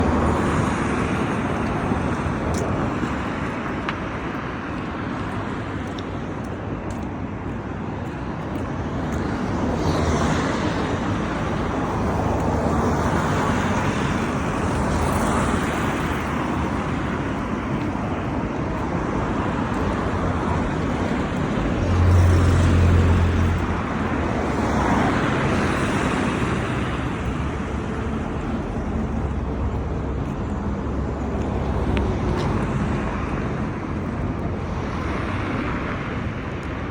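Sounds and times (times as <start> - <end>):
cars passing: 0.0 - 36.9
steady road noise: 0.0 - 36.9.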